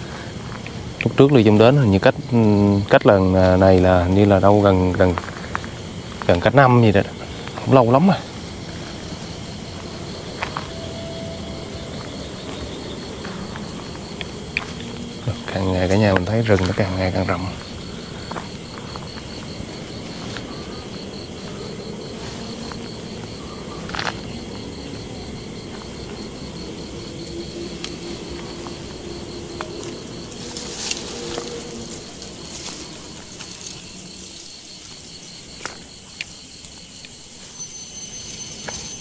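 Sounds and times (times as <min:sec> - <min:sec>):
rapid cricket-like chirp: 0:00.0 - 0:39.0
steady high insect buzz: 0:00.0 - 0:39.0.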